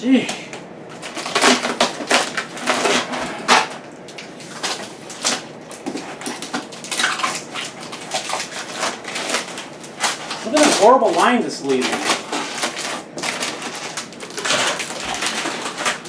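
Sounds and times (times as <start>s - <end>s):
plastic film peeling off: 0.9s - 16.0s.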